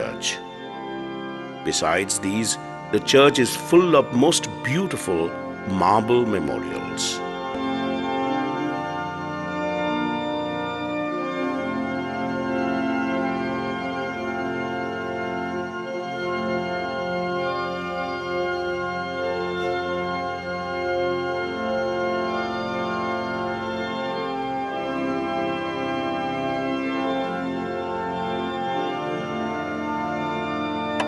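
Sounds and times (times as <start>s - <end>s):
organ playing slow chords: 0.0s - 31.0s.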